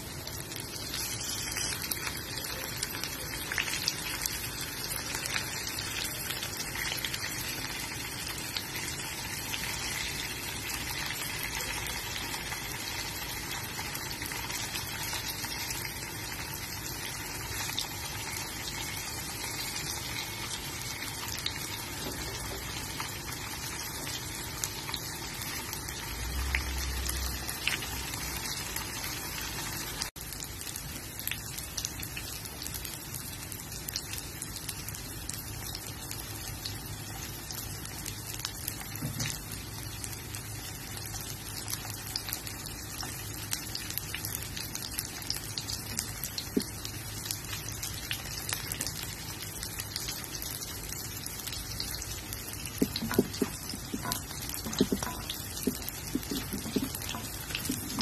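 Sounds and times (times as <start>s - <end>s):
tofu sizzling in hot oil: 0.0s - 58.0s.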